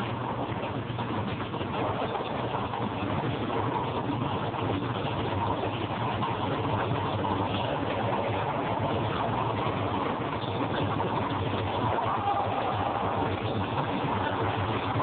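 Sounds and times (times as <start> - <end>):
speed bag rattling: 0.0 - 15.0.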